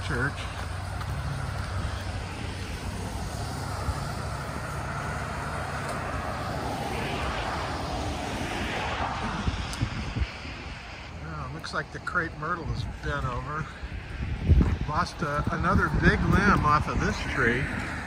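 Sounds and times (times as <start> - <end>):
low engine drone: 0.0 - 18.0
rushing noise: 0.0 - 18.0.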